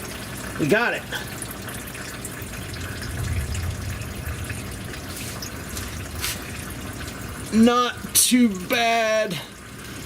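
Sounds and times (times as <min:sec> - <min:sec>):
oil dripping into a pan: 0:00.0 - 0:10.0.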